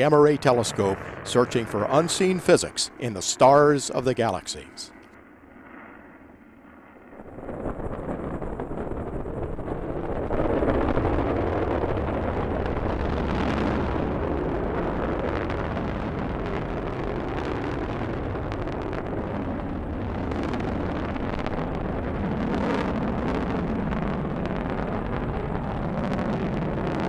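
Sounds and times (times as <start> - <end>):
rocket engines rumbling and crackling: 0.0 - 27.0.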